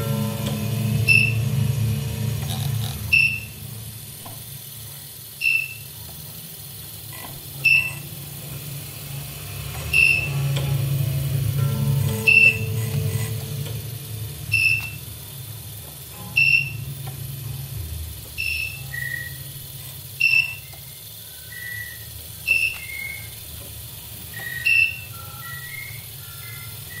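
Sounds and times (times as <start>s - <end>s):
shorter lower electronic tones: 0.0s - 4.6s, 7.1s - 27.0s
low hum: 0.0s - 27.0s.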